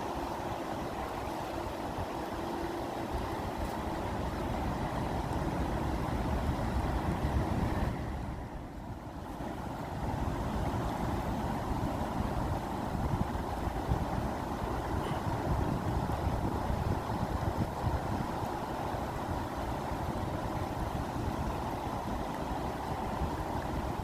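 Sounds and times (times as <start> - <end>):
water rushing with deep rumble: 0.0 - 24.0.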